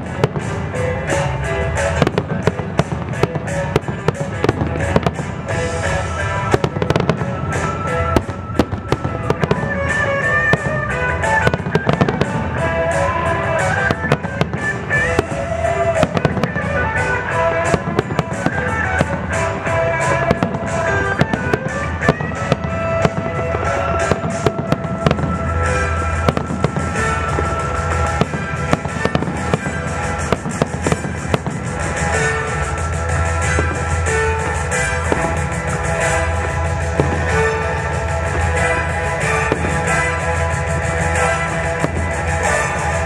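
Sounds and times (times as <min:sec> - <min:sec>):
fireworks bursting with sharp bangs: 0:00.0 - 0:43.0
music: 0:00.0 - 0:43.0.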